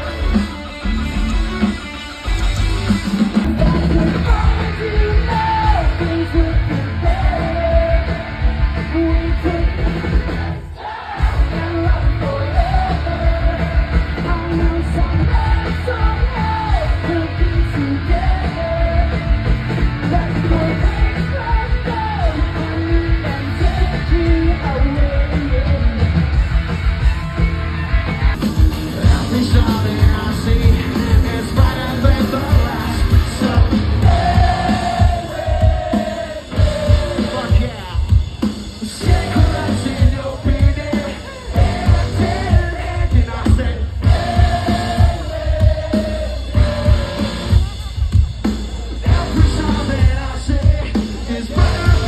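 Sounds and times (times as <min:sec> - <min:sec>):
punk rock band playing loud: 0:00.0 - 0:52.0.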